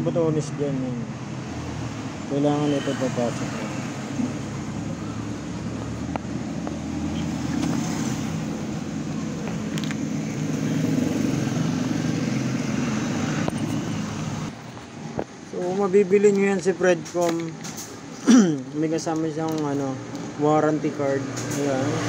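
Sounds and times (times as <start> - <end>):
motor vehicle engine humming: 0.0 - 22.0.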